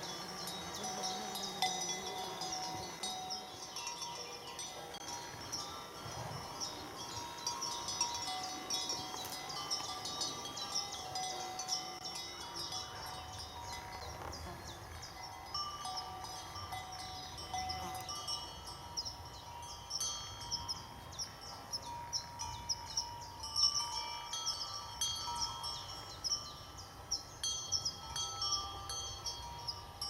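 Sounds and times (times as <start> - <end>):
horse bells clinking: 0.0 - 30.0.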